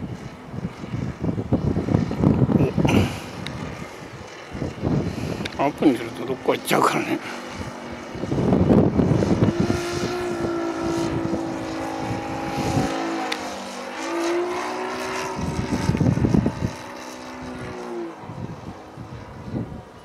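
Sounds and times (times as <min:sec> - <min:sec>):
model airplane engine buzzing: 0:00.0 - 0:20.0
wind rumbling on microphone: 0:00.0 - 0:20.0.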